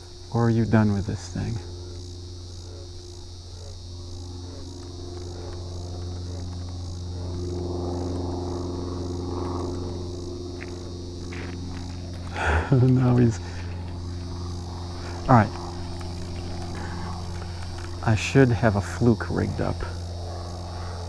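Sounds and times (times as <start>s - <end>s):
insect chorus trilling: 0.0s - 21.0s
low constant hum: 0.0s - 21.0s.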